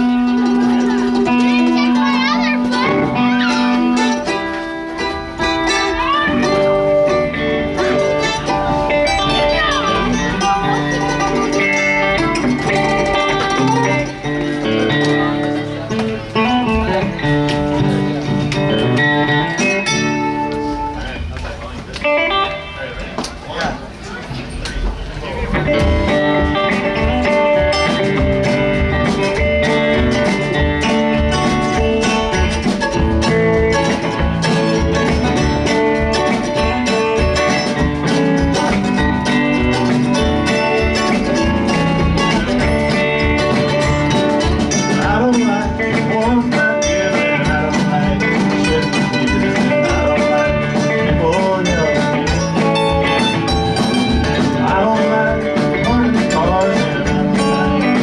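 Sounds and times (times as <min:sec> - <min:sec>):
guitar: 0:00.0 - 0:58.0
steady drum beat: 0:00.0 - 0:58.0.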